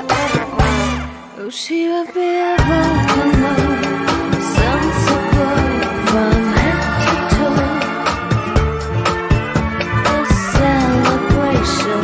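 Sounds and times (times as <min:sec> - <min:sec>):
cha-cha dance music: 0:00.0 - 0:01.4, 0:02.6 - 0:12.0
person singing: 0:00.0 - 0:12.0.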